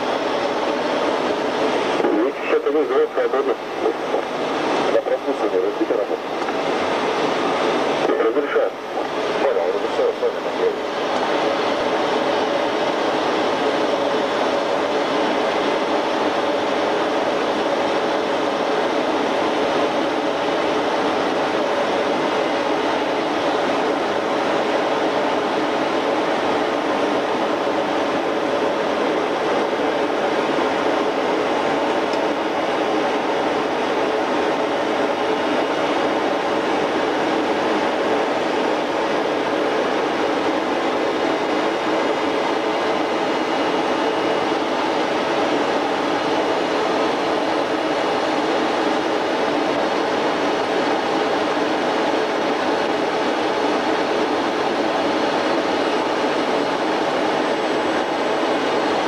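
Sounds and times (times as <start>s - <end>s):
turbofan engines running: 0.0s - 59.0s.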